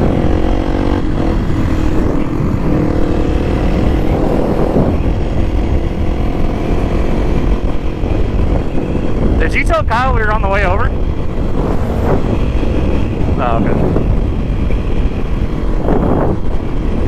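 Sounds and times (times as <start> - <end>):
motorcycle engine running: 0.0 - 17.0
wind rumbling on microphone: 0.0 - 17.0.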